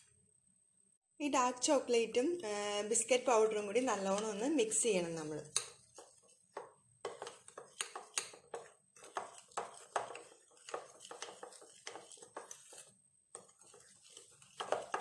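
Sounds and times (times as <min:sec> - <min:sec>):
metal spoon scraping a bowl: 0:02.0 - 0:15.0.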